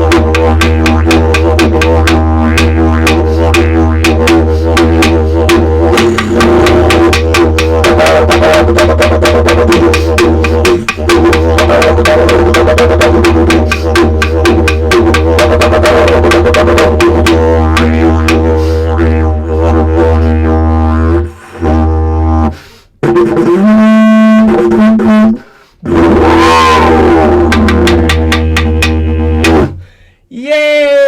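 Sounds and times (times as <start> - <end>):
didgeridoo drone: 0.0 - 25.3, 25.9 - 29.8.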